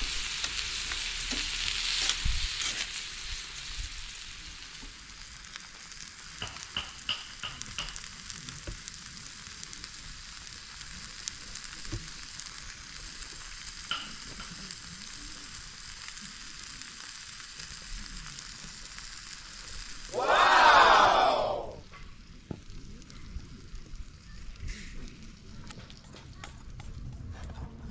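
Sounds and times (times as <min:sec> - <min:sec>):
food sizzling in a pan: 0:00.0 - 0:26.1.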